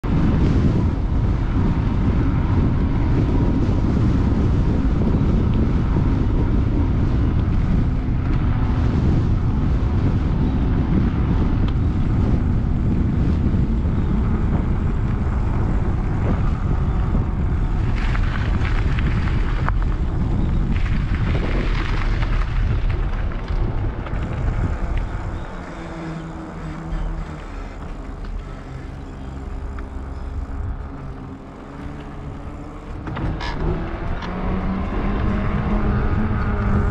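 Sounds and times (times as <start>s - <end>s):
bike tyres humming on asphalt: 0.0s - 36.9s
wind rushing over microphone: 0.0s - 36.9s.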